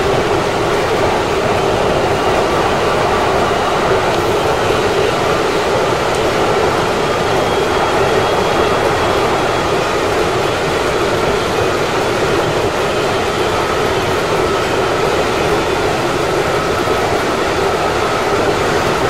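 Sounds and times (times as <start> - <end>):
faint high whine: 0.0 - 19.0
train wheels rumbling on rails: 0.0 - 19.0.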